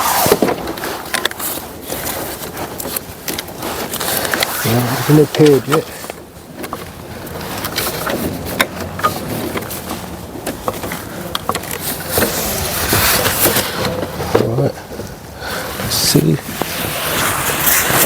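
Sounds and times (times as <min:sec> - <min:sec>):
clicks of wiring and plastic: 0:00.0 - 0:15.1.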